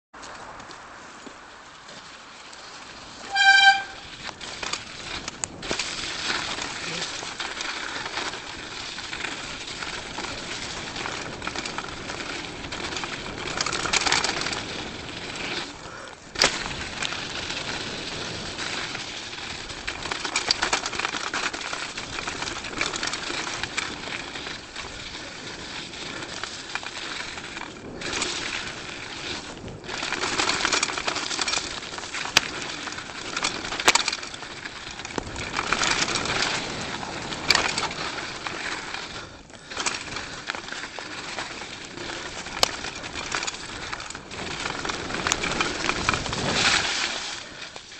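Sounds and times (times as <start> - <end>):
tyre and wind noise: 0.2 - 47.9.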